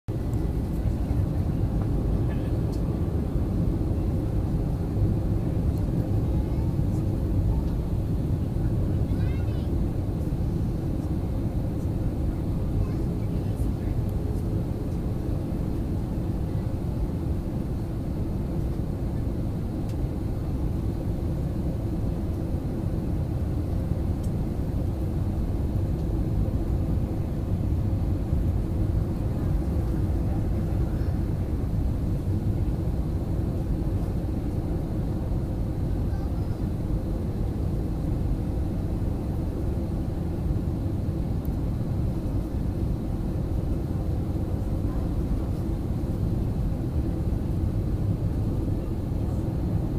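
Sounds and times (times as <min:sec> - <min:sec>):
airliner cabin engine rumble: 0:00.1 - 0:49.9
faint steady hum: 0:00.1 - 0:49.9.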